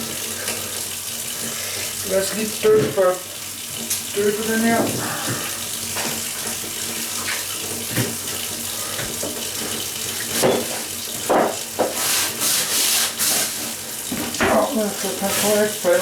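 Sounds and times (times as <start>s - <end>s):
water running: 0.0s - 16.0s.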